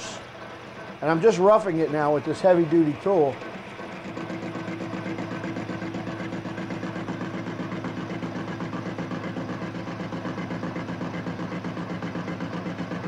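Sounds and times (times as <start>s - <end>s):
metal lathe cutting with pulsing: 0.0s - 13.0s.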